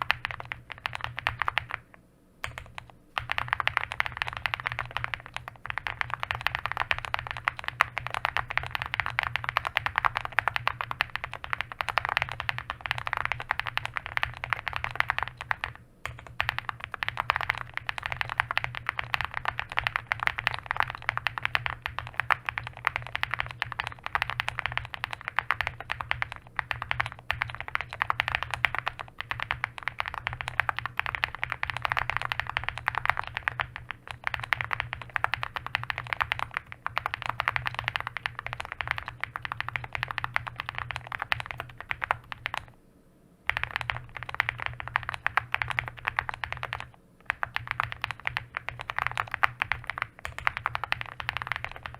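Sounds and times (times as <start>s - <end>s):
mechanical keyboard typing: 0.0s - 42.8s, 43.5s - 51.9s.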